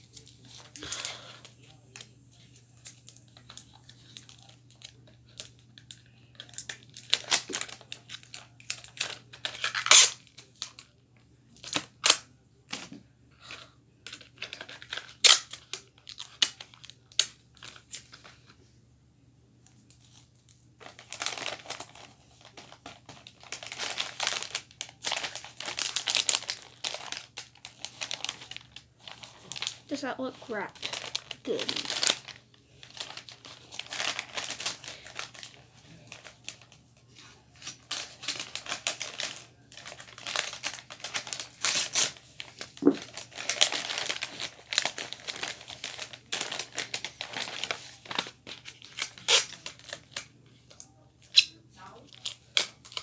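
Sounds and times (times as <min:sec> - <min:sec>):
wrapping paper crinkling: 0:00.0 - 0:11.0, 0:14.0 - 0:18.5, 0:19.9 - 0:53.0
packaging snapping and tearing: 0:02.8 - 0:10.8, 0:11.6 - 0:12.8, 0:14.0 - 0:18.1, 0:20.8 - 0:29.8, 0:30.8 - 0:36.7, 0:37.6 - 0:53.0.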